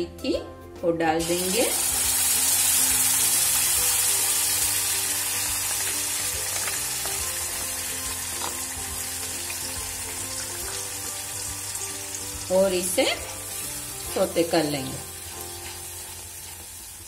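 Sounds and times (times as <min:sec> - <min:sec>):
soft background music: 0:00.0 - 0:17.0
paste sizzling in hot oil: 0:01.2 - 0:17.0.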